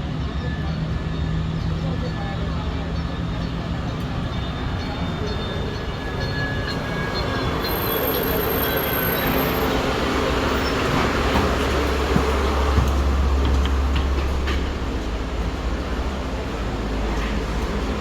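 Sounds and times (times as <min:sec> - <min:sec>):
bus rumbling and hissing: 0:00.0 - 0:18.0.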